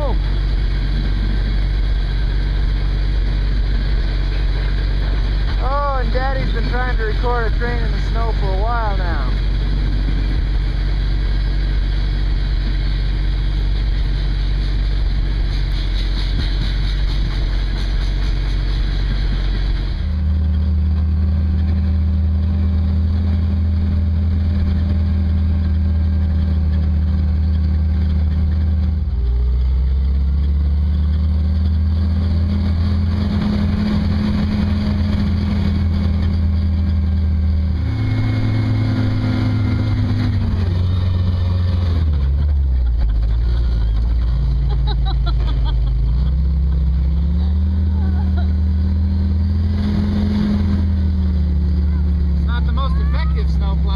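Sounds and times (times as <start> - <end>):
car engine running: 0.0 - 53.9.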